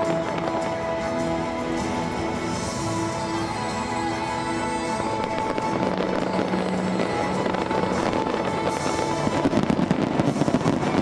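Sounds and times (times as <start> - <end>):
fireworks banging and crackling: 0.0 - 11.0
music with long held notes: 0.0 - 11.0.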